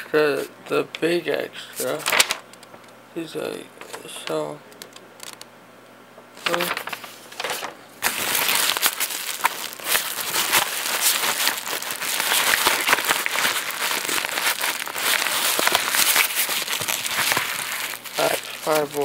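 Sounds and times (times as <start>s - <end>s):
packaging crinkling and rustling: 1.8s - 2.8s, 3.8s - 5.4s, 6.4s - 19.0s.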